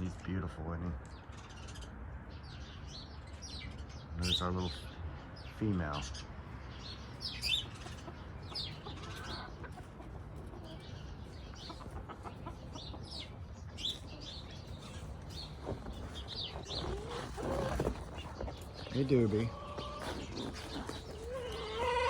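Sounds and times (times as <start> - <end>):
chickens clucking and chirping: 0.0 - 22.0.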